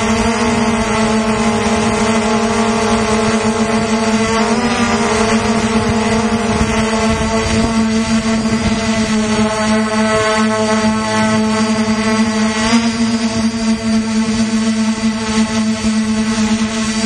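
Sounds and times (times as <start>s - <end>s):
drone propellers humming: 0.0s - 17.0s
wind rumble on microphone: 0.0s - 17.0s.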